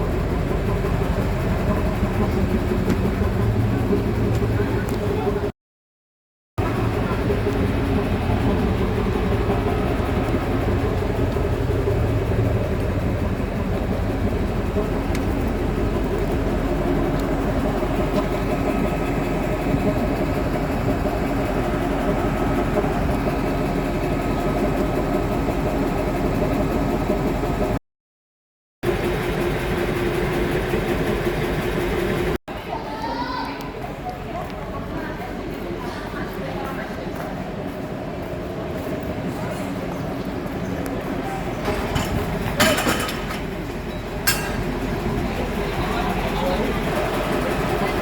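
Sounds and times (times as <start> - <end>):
train running on rails: 0.0 - 5.5, 6.6 - 27.8, 28.8 - 48.0.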